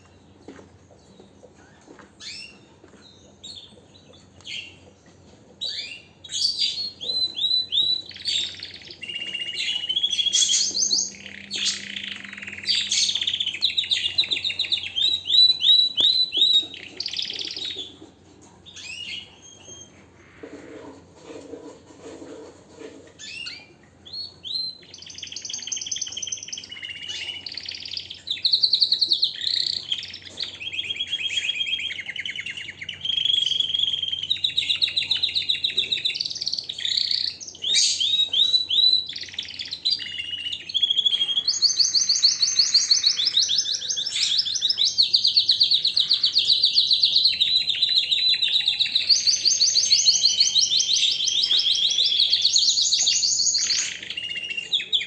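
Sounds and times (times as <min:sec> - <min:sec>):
canary singing trills: 0:00.0 - 0:21.0, 0:23.0 - 0:55.0.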